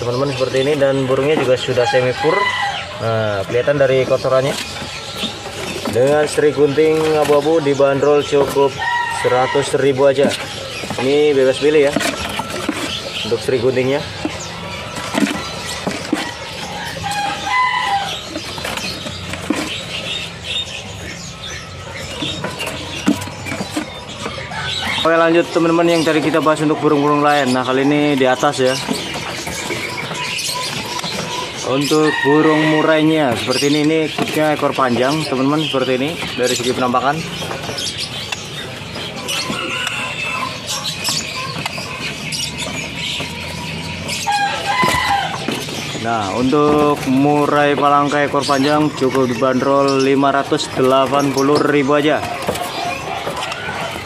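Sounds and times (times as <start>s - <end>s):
bird call: 0.0s - 54.0s
songbirds chirping and twittering: 0.0s - 54.0s.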